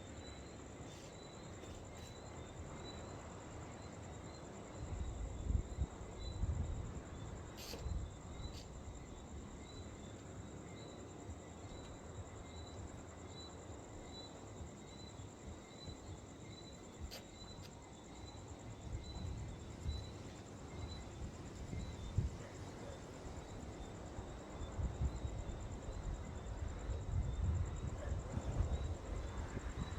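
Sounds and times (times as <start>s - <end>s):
insects trilling: 0.0s - 29.9s.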